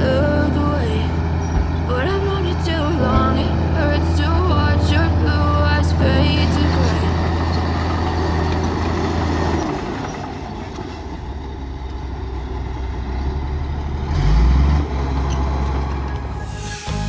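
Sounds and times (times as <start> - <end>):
heavy machine diesel engine running: 0.0 - 17.0.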